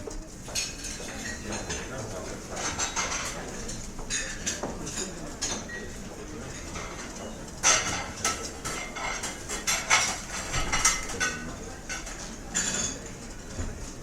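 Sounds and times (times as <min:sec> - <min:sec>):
cutlery and crockery clinking: 0:00.5 - 0:13.7.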